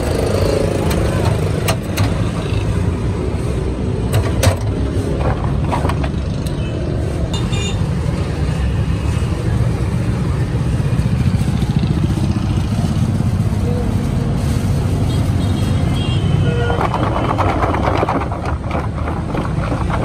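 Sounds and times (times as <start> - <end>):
low rumble of street traffic: 0.0 - 20.0.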